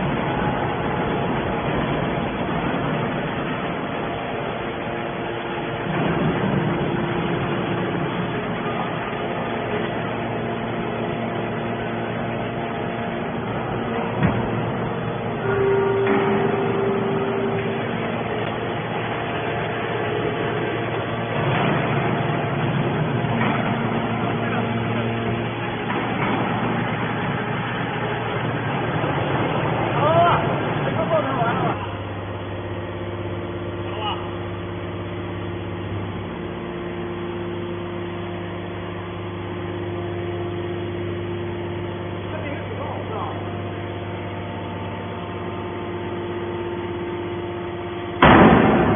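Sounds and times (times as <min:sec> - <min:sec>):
hydraulic baler running: 0:00.0 - 0:48.9
machine power unit humming: 0:00.0 - 0:48.9.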